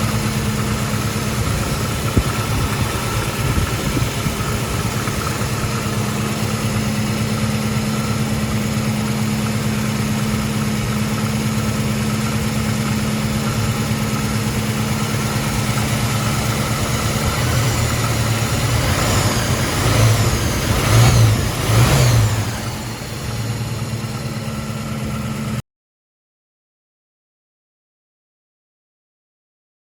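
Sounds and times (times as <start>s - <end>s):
car engine idling: 0.0s - 25.6s
engine revving: 0.0s - 25.6s.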